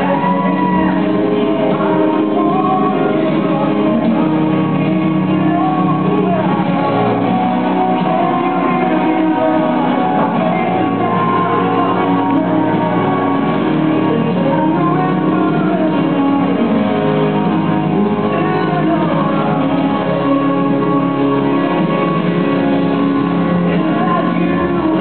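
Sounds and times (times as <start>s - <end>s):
song played in large hall: 0.0s - 25.0s.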